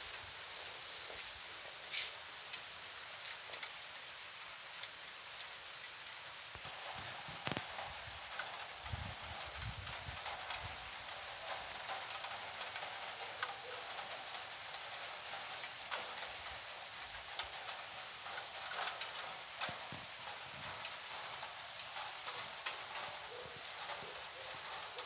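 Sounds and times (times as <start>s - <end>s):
rain hiss: 0.0s - 25.0s
raindrops ticking: 0.1s - 25.0s.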